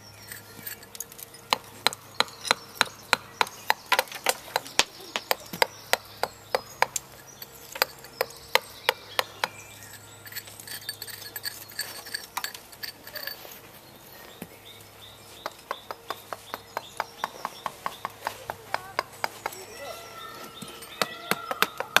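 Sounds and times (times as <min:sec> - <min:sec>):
hammer tapping on stone: 0:00.3 - 0:13.4, 0:15.4 - 0:19.6, 0:20.6 - 0:22.0.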